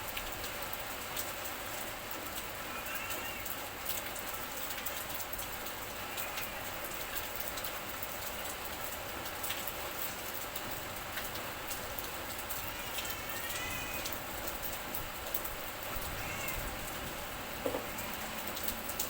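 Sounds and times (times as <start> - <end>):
raindrops ticking: 0.0 - 19.0
steady rain hiss: 0.0 - 19.0.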